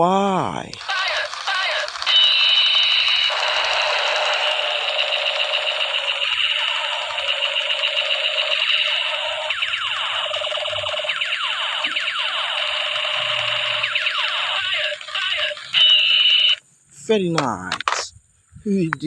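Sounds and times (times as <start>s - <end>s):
toy gun electronic firing effect: 0.7s - 16.6s.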